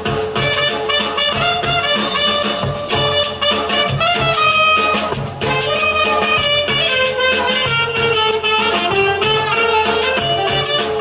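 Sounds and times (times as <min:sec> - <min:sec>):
conga drumming: 0:00.0 - 0:11.0
drum kit: 0:00.0 - 0:11.0
trumpet playing: 0:00.3 - 0:11.0
high held horn note: 0:00.4 - 0:11.0
saxophones playing: 0:00.4 - 0:11.0.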